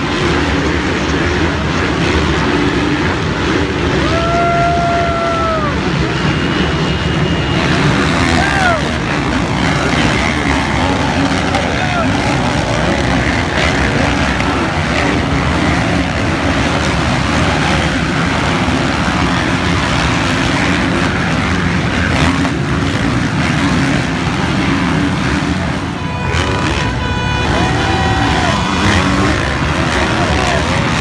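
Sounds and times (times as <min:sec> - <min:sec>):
motocross engines running: 0:00.0 - 0:31.0.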